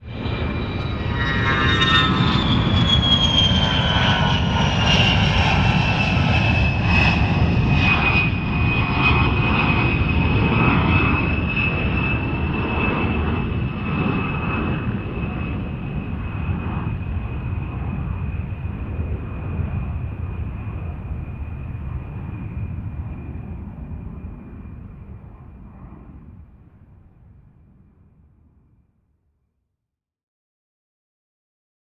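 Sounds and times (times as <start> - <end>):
jet engines rumbling and whining: 0.0 - 26.4.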